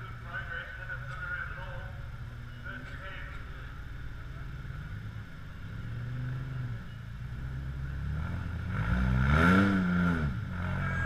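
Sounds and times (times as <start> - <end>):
buggy engine running and revving: 0.0 - 11.0.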